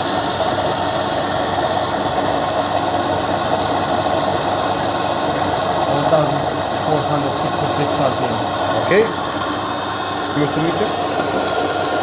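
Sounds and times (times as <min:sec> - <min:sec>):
machine hum with whine: 0:00.0 - 0:12.0.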